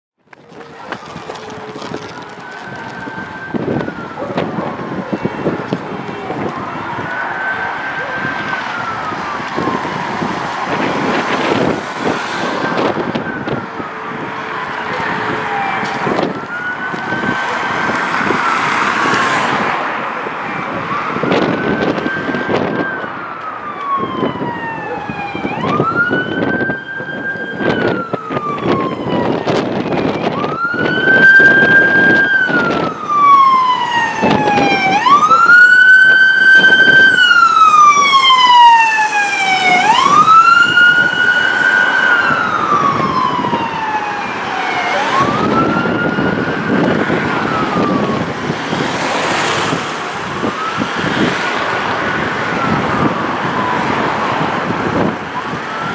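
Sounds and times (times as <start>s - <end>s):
street traffic: 0.2s - 55.9s
ambulance siren wailing: 0.3s - 55.9s.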